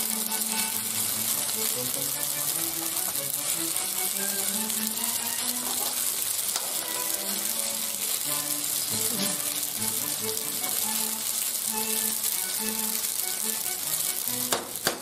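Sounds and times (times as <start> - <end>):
wooden spoon stirring: 0.0 - 14.2
food sizzling in a frying pan: 0.0 - 15.0.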